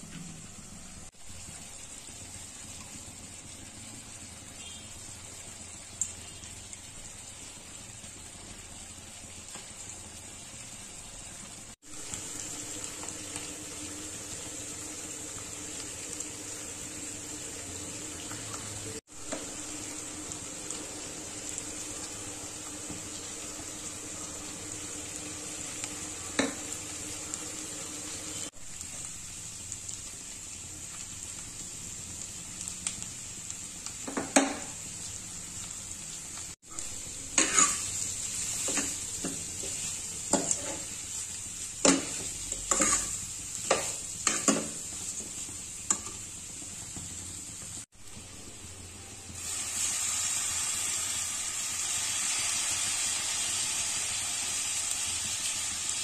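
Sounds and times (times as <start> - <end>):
chicken sizzling in oil: 0.0 - 56.0.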